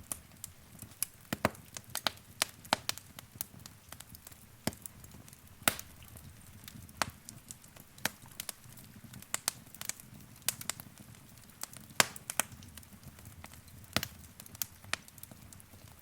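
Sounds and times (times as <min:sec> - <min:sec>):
burning logs popping and snapping: 0:00.0 - 0:16.0
low rumble of flames: 0:00.0 - 0:16.0.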